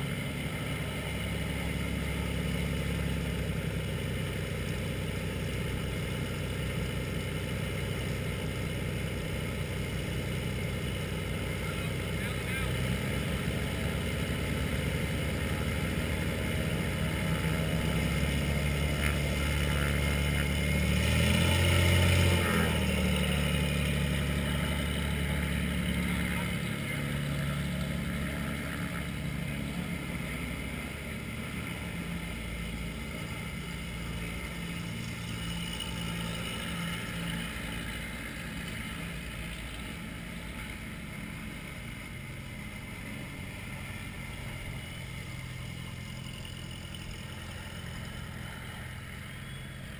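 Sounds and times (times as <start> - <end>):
propeller aircraft engine: 0.0 - 49.9.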